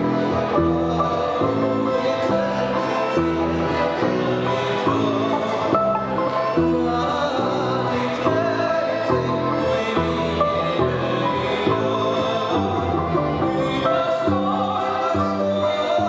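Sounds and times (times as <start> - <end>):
balalaika: 0.0 - 16.0
folk dance tune on accordion: 0.0 - 16.0
person singing: 0.0 - 16.0.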